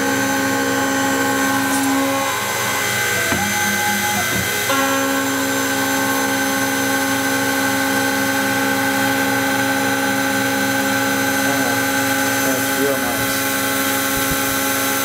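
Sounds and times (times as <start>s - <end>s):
milling machine spindle whine: 0.0s - 15.0s.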